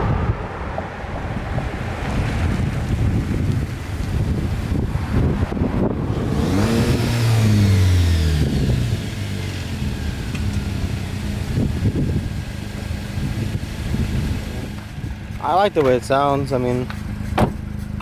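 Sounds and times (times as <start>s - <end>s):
car accelerating past: 0.0s - 15.1s.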